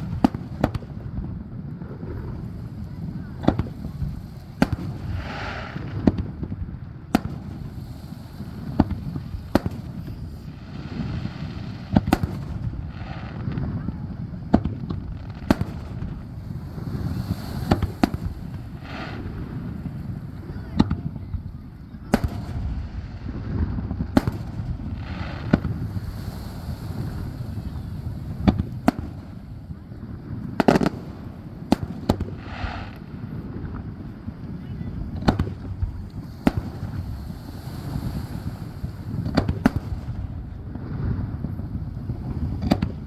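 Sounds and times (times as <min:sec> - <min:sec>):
fireworks bursting with sharp bangs: 0:00.0 - 0:43.0.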